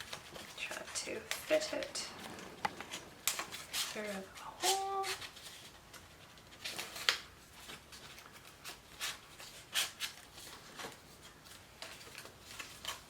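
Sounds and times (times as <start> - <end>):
cardstock rustling and crackling: 0.0 - 13.0.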